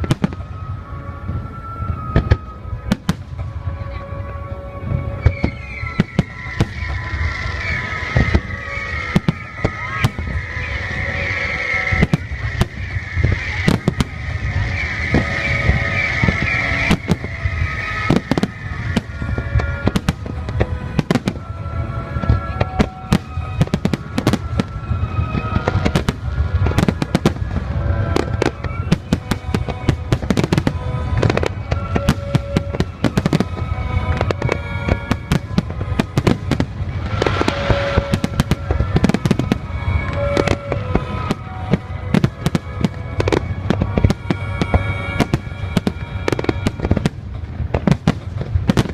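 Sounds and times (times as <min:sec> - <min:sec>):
fireworks bursting: 0:00.0 - 0:48.9
music playing: 0:00.0 - 0:48.9.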